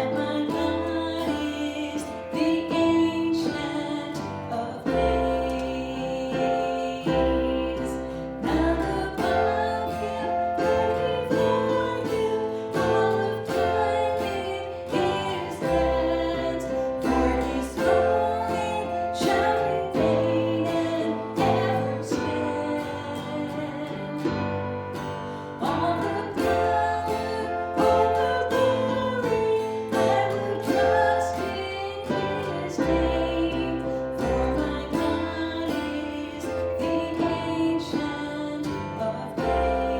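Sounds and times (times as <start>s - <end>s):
song with acoustic guitar and singing: 0.0s - 39.9s.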